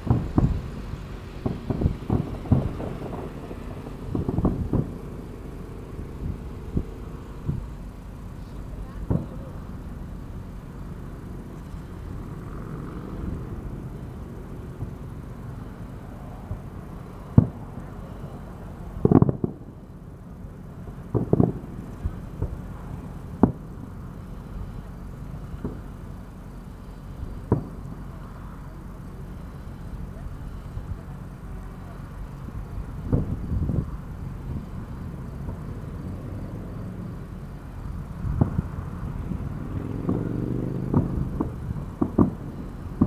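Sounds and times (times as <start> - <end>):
fireworks booming: 0.0 - 43.0
low rumble: 0.0 - 43.0.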